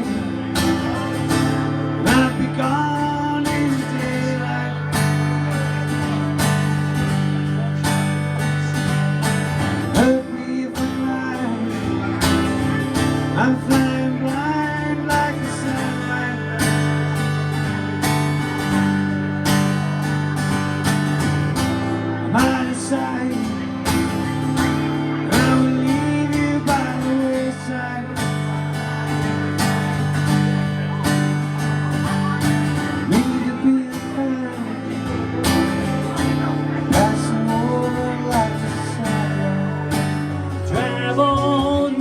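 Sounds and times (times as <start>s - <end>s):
acoustic blues guitar: 0.0s - 42.0s.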